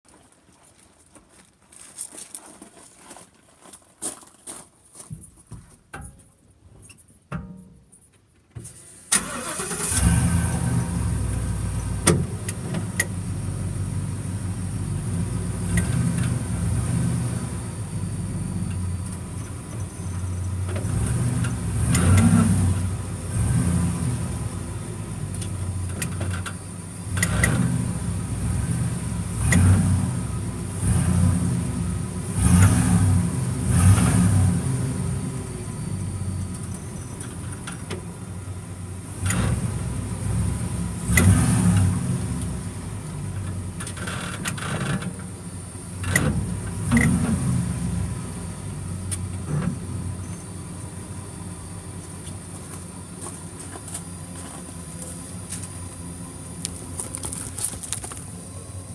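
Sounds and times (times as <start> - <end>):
truck engine rumbling: 6.0 - 58.9.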